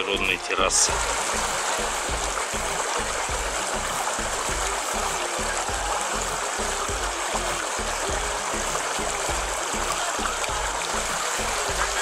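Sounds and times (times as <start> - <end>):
background music with beat: 0.0 - 12.0
running water: 0.0 - 12.0.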